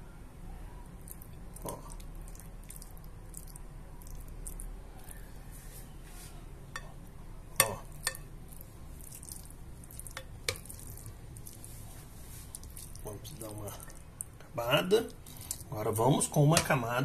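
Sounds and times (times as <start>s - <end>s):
spoon scraping moist filling: 1.0s - 5.8s, 7.6s - 16.8s.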